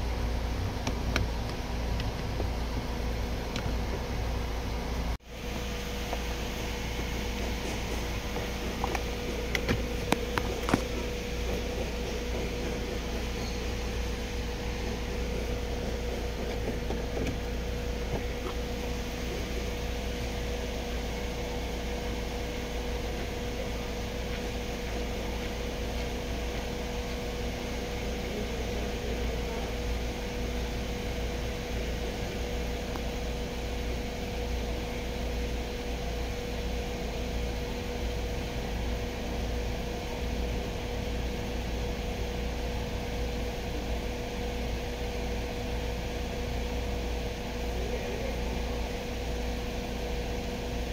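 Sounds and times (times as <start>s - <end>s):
car engine idling: 0.0s - 50.9s
faint steady whine: 0.0s - 50.9s.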